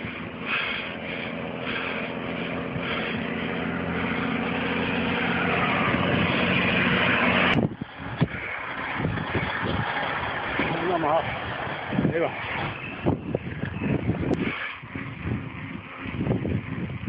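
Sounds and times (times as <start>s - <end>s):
vehicle engine humming: 0.0s - 17.0s
wind and road noise: 0.0s - 17.0s.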